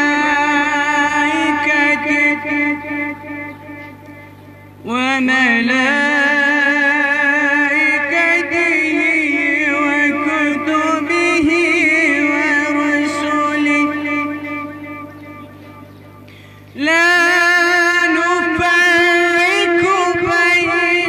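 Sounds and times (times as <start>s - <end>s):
boy chanting into a microphone: 0.0s - 16.0s, 16.6s - 21.0s.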